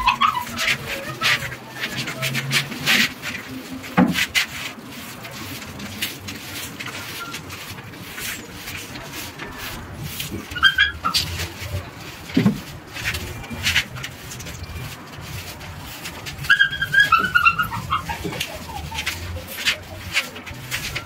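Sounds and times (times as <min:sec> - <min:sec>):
broom sweeping concrete floor: 0:00.0 - 0:21.0.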